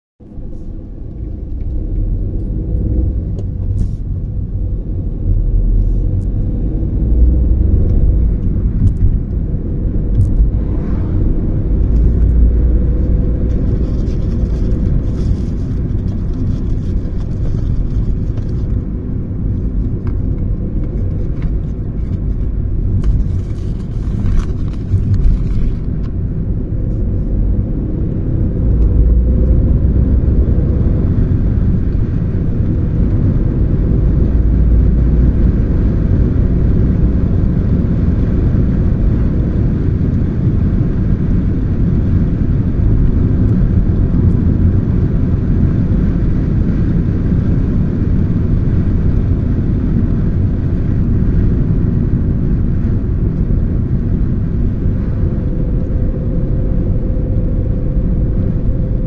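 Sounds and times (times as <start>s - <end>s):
car cabin road rumble: 0.2s - 59.0s.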